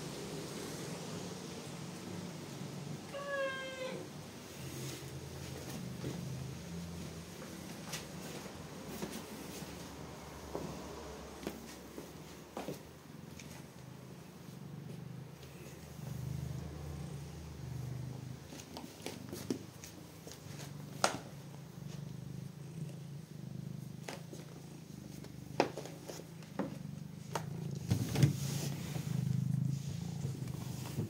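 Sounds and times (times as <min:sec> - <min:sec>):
cat purring: 0:00.1 - 0:31.0.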